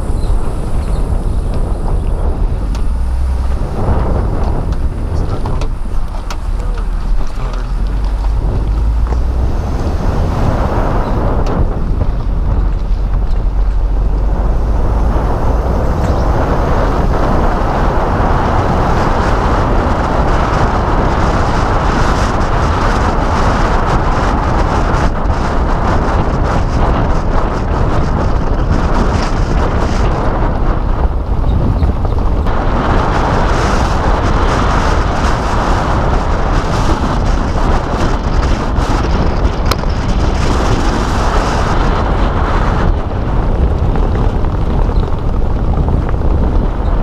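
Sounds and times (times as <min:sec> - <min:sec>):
tyres rumbling on rough road: 0:00.0 - 0:47.0
wind noise: 0:00.0 - 0:47.0.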